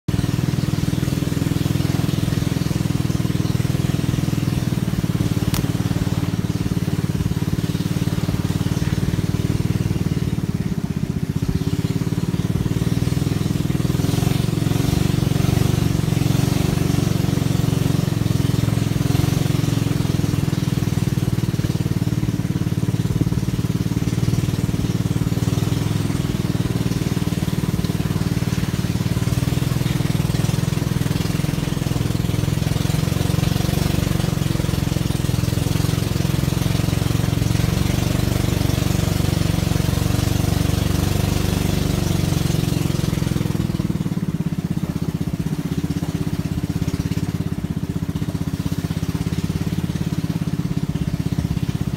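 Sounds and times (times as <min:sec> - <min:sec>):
small boat engine humming: 0:00.0 - 0:51.9.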